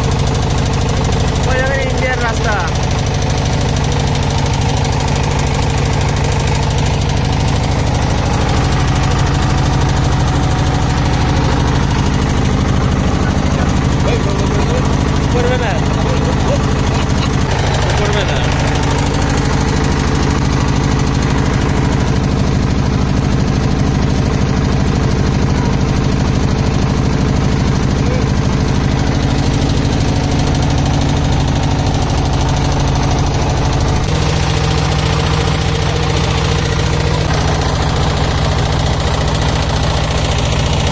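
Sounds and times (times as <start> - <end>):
boat motor running: 0.0 - 40.9.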